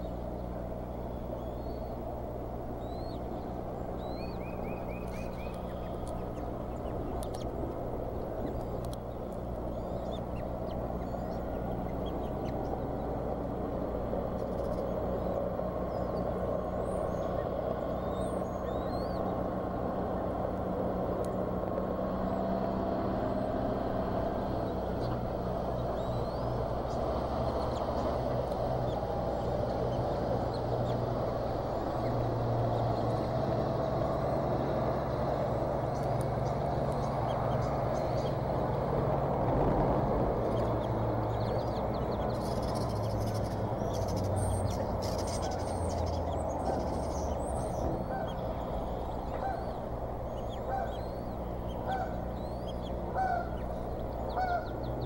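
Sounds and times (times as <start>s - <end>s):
low rumbling background noise: 0.0s - 55.0s.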